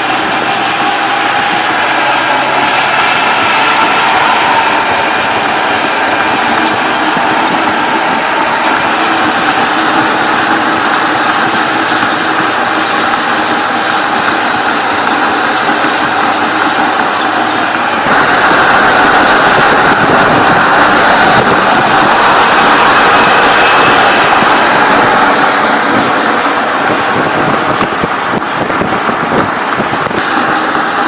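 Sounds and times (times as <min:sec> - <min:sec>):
truck driving: 0:00.0 - 0:31.0.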